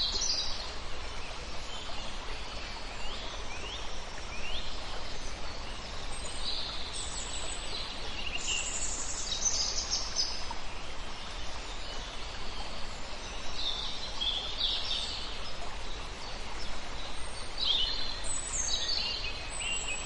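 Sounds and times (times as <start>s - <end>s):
songbirds singing: 0.0s - 20.0s
steady background hiss: 0.0s - 20.0s.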